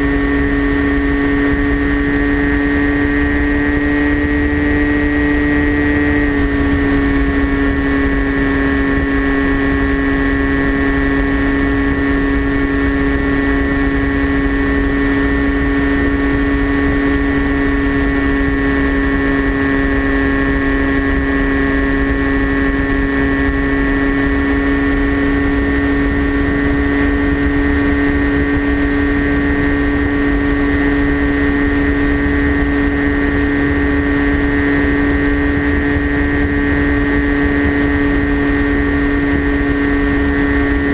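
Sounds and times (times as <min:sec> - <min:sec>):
electric motor propeller whine: 0:00.0 - 0:40.9
wind rumble on microphone: 0:00.0 - 0:40.9.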